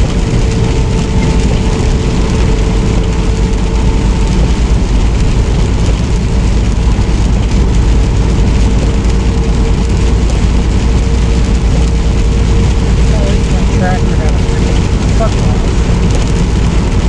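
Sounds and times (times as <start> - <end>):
rain: 0.0 - 17.0
truck engine and road noise: 0.0 - 17.0.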